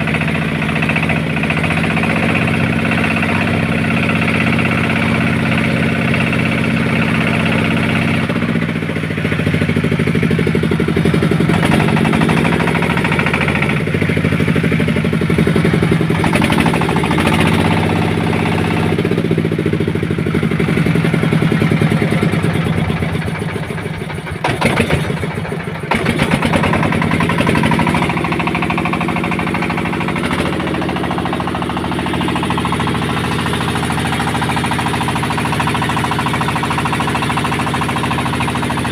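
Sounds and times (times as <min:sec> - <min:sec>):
engine running with fast knock: 0:00.0 - 0:38.9.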